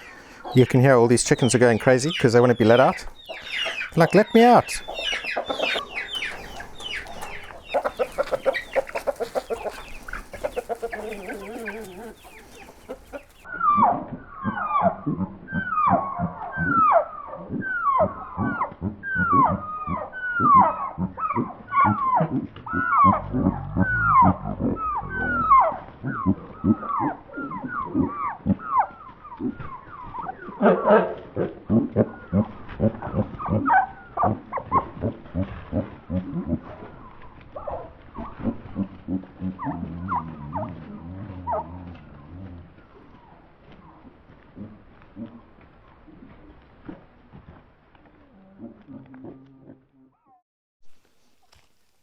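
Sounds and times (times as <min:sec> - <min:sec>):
chickens squawking: 0:00.0 - 0:44.0.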